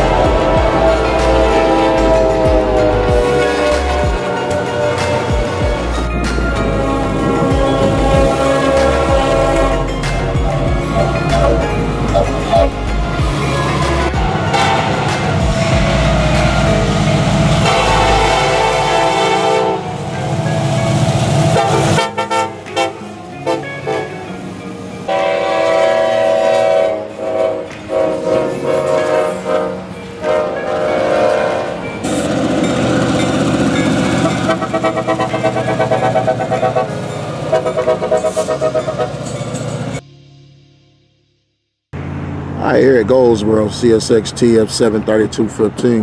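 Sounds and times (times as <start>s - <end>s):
locomotive air horn blasts: 0.0s - 20.2s, 21.3s - 32.6s, 33.8s - 39.5s
locomotive engine rumble: 0.0s - 40.2s
rail noise: 0.0s - 41.0s, 42.0s - 46.0s.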